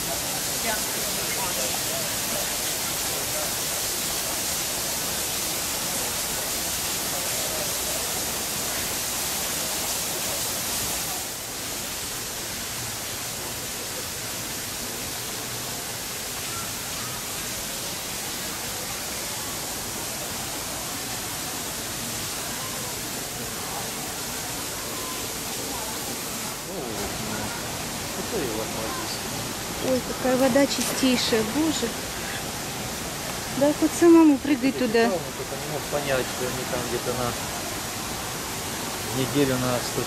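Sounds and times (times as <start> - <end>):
falling water rushing: 0.0 - 40.0.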